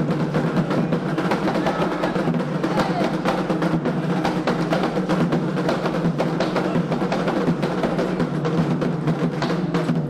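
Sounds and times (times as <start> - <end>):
hand drums beating fast rhythm: 0.0 - 10.0.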